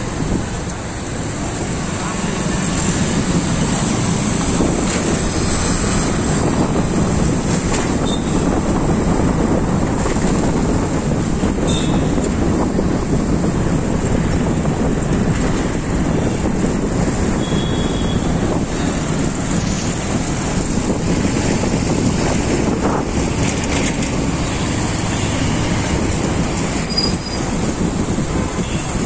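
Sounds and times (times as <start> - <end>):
city traffic: 0.0 - 29.0
wind noise on microphone: 0.0 - 29.0.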